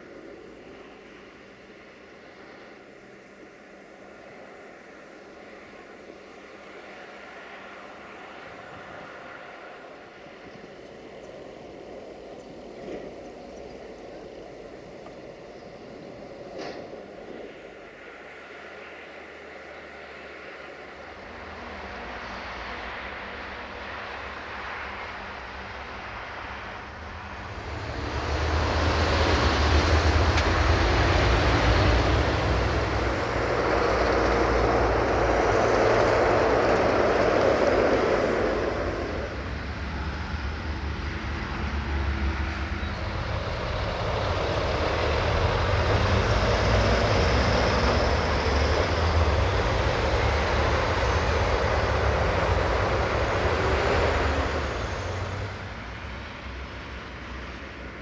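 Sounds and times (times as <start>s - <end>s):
heavy diesel vehicles passing: 0.0s - 58.0s.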